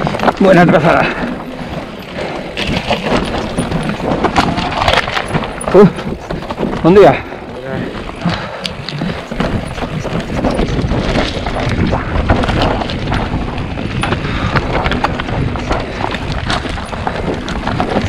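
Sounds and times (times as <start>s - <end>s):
bike rattling and knocking: 0.0s - 18.0s
tyres crunching over dirt: 0.0s - 18.0s
wind buffeting microphone: 0.0s - 18.0s.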